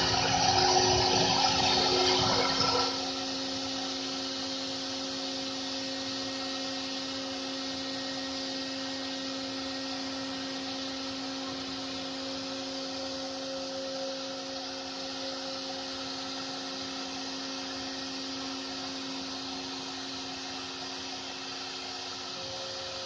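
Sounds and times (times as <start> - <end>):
cnc cutting machine humming: 0.0 - 23.0.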